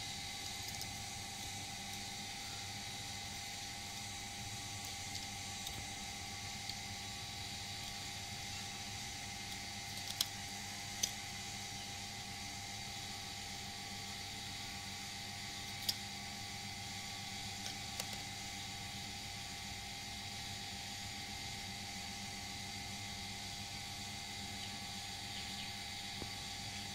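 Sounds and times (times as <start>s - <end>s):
steady background hum: 0.0s - 26.9s.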